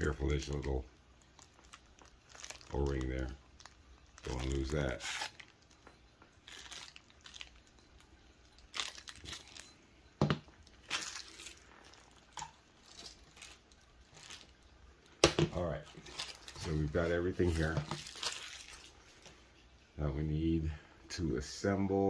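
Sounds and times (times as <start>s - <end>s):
plastic bag crinkling: 0.0s - 9.8s, 10.5s - 19.4s.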